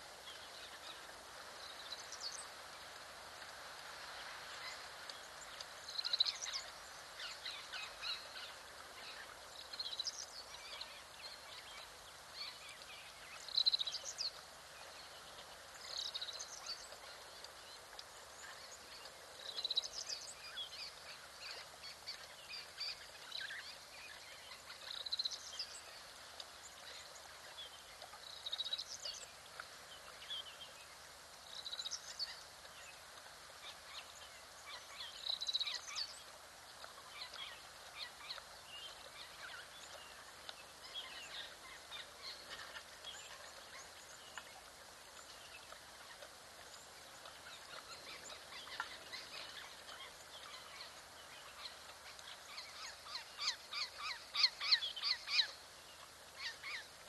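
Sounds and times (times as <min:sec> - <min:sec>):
faint outdoor hiss: 0:00.0 - 0:57.0.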